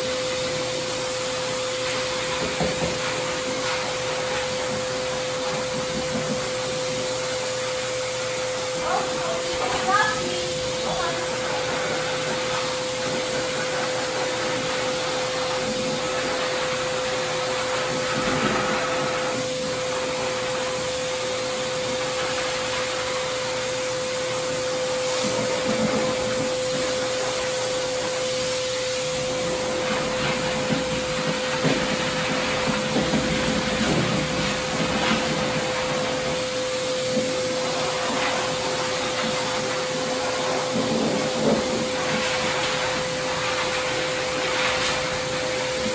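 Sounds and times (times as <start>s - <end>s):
dog dryer blowing air: 0.0s - 45.9s.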